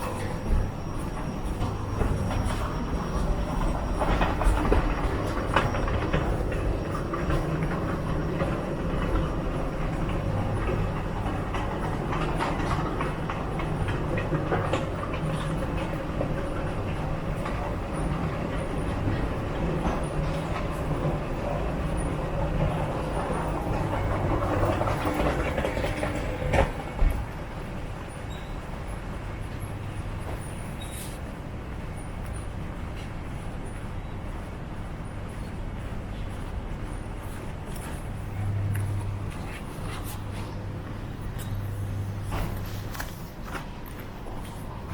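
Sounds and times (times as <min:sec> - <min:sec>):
train rumbling: 0:00.0 - 0:44.9.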